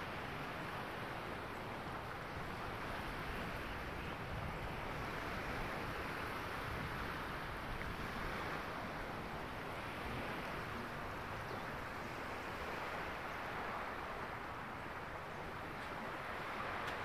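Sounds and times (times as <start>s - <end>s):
sea waves washing onto beach: 0.0s - 17.0s
wind: 0.0s - 17.0s.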